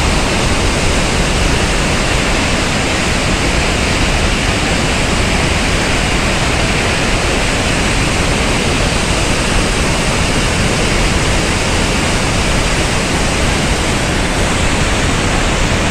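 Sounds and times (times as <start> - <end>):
water rushing down spillway: 0.0 - 15.9.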